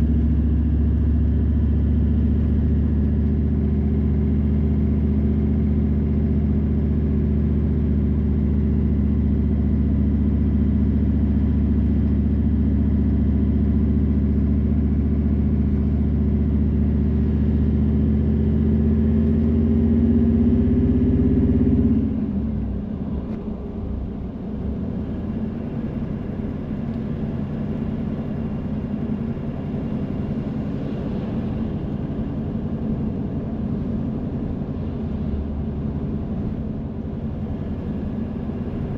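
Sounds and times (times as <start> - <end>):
car engine and road drone: 0.0 - 38.9
rough road noise: 0.0 - 38.9.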